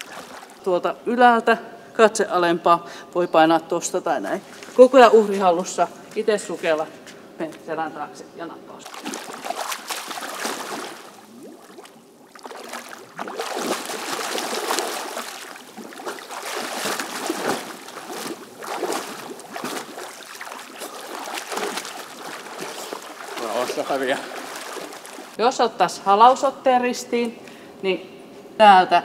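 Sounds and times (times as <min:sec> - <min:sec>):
pool water splashing: 0:00.0 - 0:01.4, 0:03.5 - 0:07.8, 0:08.7 - 0:26.6.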